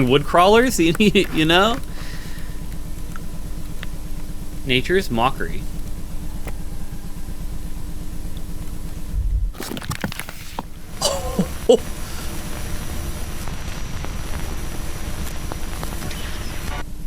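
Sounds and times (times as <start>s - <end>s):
low rumbling hum: 0.0s - 17.0s.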